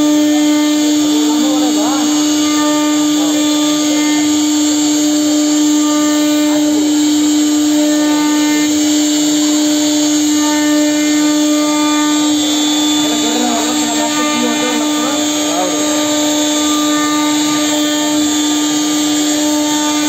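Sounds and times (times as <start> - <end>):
router spindle whine: 0.0 - 20.0.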